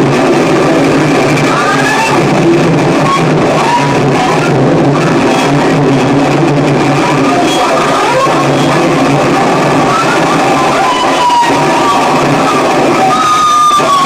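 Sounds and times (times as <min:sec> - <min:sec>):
distorted noise wall: 0:00.0 - 0:14.0
low drone: 0:00.0 - 0:14.0.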